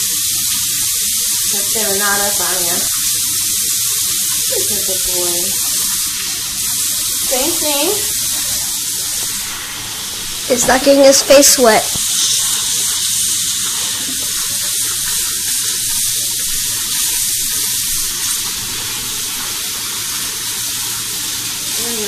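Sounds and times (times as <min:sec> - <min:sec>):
faucet water splashing into sink: 0:00.0 - 0:22.0.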